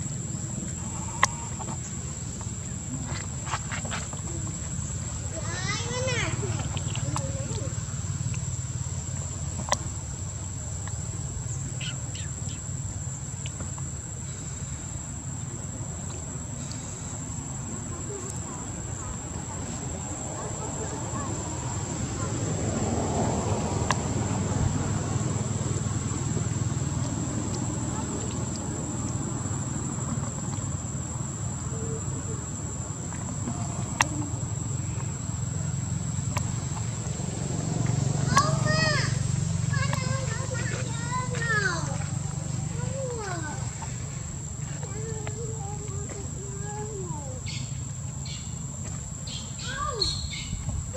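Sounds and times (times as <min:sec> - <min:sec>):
high-pitched insect whine: 0:00.0 - 0:50.9.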